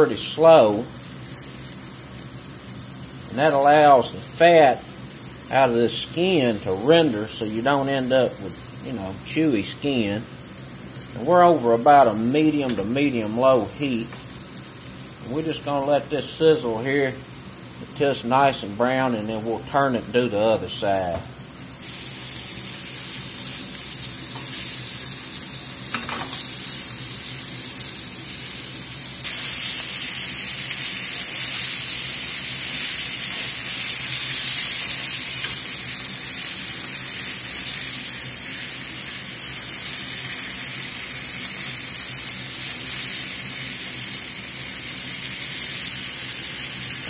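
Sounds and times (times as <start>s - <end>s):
chicken sizzling in a skillet: 0.0s - 47.0s.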